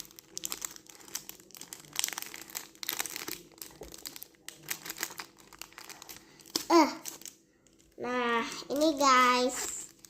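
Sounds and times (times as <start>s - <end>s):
packaging crinkling: 0.0s - 8.0s, 8.7s - 10.0s.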